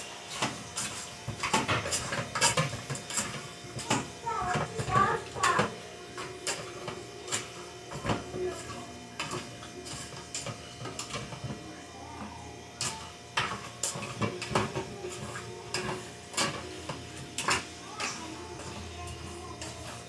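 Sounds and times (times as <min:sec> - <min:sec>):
spoon scraping metal pot: 0:00.3 - 0:11.6, 0:12.8 - 0:20.0.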